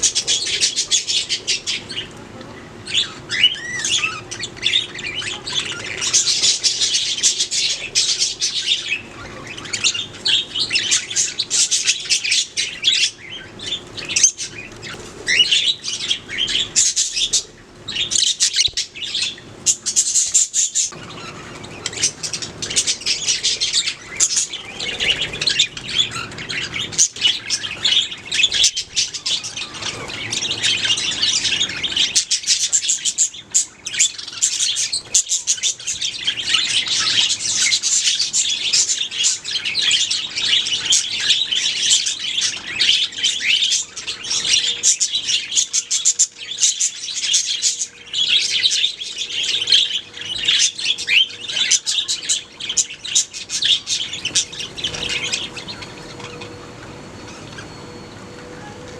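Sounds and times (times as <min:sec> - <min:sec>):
budgies chirping and trilling: 0:00.0 - 0:58.9.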